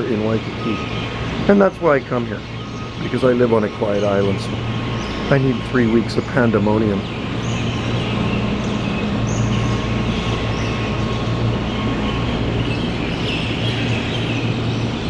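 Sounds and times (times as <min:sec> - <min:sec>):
birds chattering and calling: 0:00.0 - 0:15.0
truck engine drone: 0:00.0 - 0:15.0.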